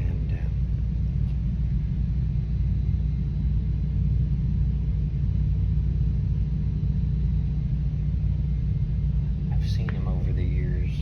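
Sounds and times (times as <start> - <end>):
faint constant hum: 0.0 - 11.0
low rumble: 0.0 - 11.0.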